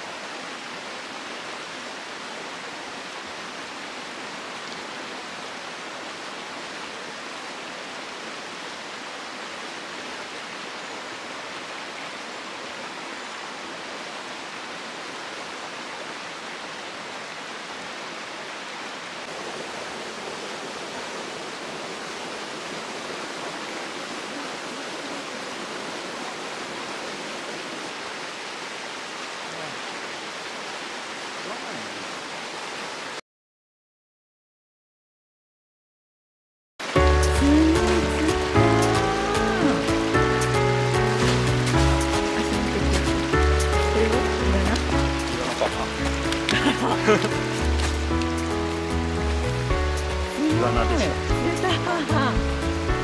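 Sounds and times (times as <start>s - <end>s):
stream water rushing over rocks: 0.0s - 33.2s, 36.8s - 53.0s.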